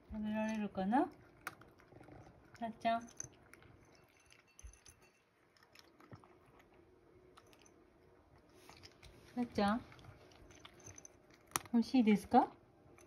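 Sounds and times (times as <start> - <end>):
cat chewing dry kibble: 0.0 - 11.8.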